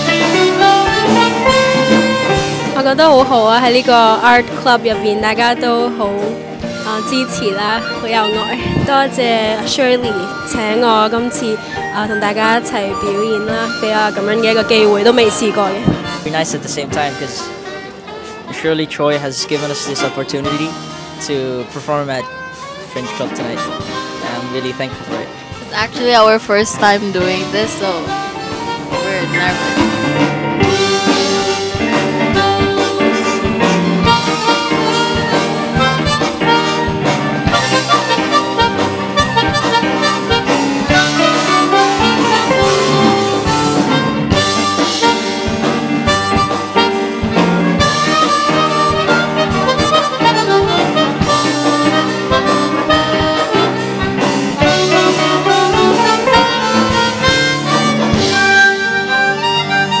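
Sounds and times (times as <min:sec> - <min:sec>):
guitar: 0:00.0 - 1:00.0
live band music: 0:00.0 - 1:00.0
harmonica: 0:05.1 - 1:00.0.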